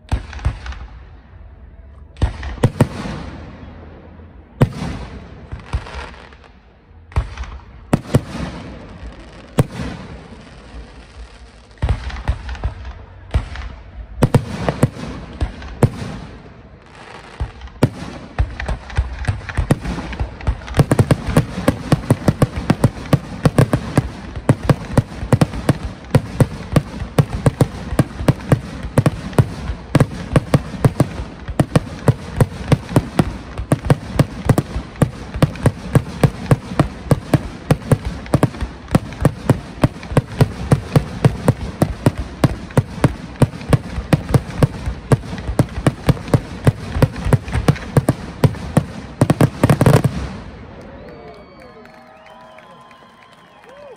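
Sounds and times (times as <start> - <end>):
fireworks bursting: 0.0 - 1.2, 2.1 - 53.9.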